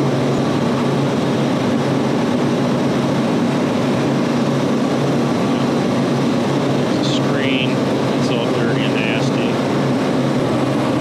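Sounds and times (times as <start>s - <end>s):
refrigeration machinery drone: 0.0s - 11.0s.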